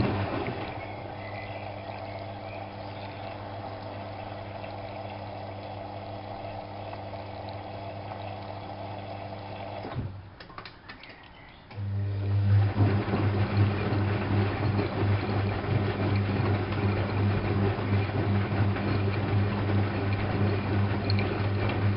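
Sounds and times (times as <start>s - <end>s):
washing machine running: 0.0s - 10.1s, 11.7s - 21.9s.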